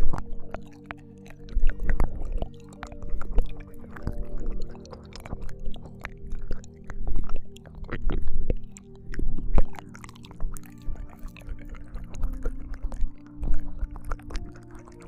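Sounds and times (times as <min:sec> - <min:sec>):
steady low held tones: 0:00.0 - 0:15.0
wet mouth clicks and smacks: 0:00.0 - 0:15.0.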